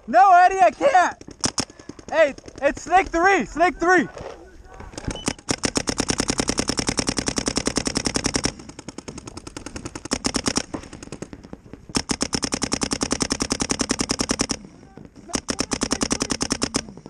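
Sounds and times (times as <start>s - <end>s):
paintball markers firing rapidly: 0.2s - 17.0s.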